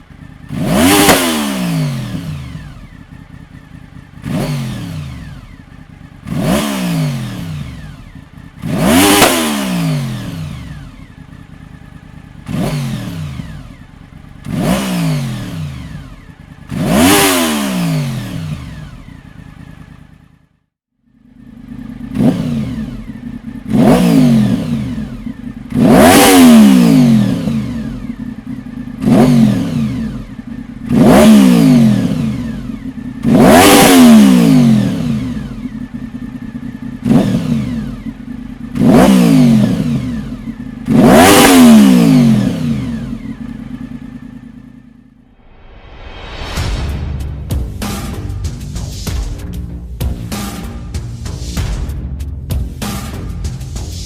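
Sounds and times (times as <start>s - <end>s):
motorcycle engine idling: 0.0s - 45.3s, 47.4s - 54.0s
motorcycle engine revving: 0.0s - 54.0s.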